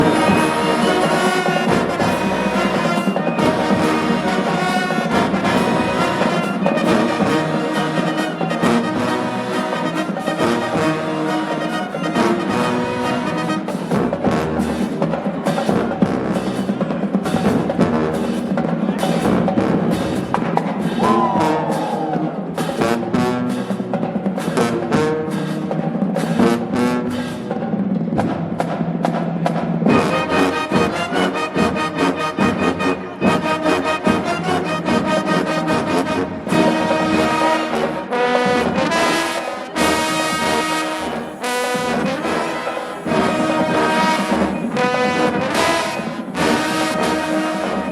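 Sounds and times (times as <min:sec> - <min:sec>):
drums: 0:00.0 - 0:47.9
marching band playing loudly: 0:00.0 - 0:47.9
trombones and trumpets: 0:00.0 - 0:47.9.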